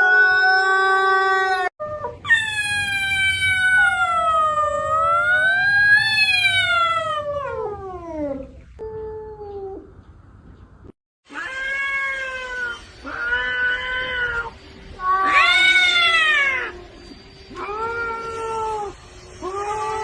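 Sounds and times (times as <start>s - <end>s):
cats yowling: 0.0s - 9.9s, 11.3s - 16.8s, 17.5s - 20.0s.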